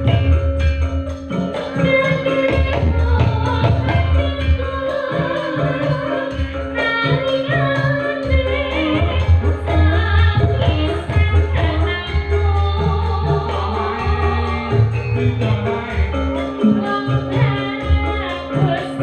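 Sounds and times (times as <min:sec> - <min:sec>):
drum and bass beat: 0:00.0 - 0:19.0
person singing: 0:01.7 - 0:19.0.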